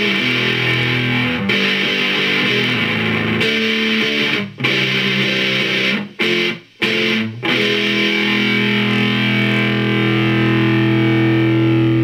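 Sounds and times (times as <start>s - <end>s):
distorted electric guitar chords: 0.0s - 12.0s.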